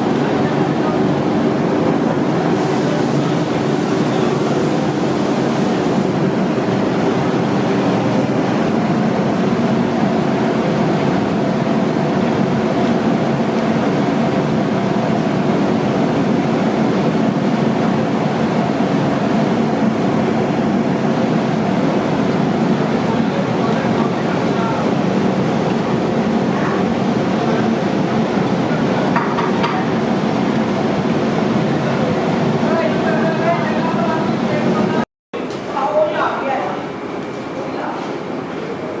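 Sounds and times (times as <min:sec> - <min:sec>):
machinery running: 0:00.0 - 0:35.0.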